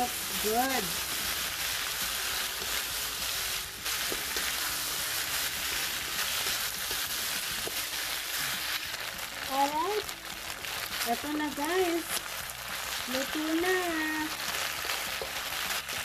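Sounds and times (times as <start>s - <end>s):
food sizzling in hot oil: 0.0s - 16.0s
wooden spatula stirring in wok: 0.0s - 16.0s.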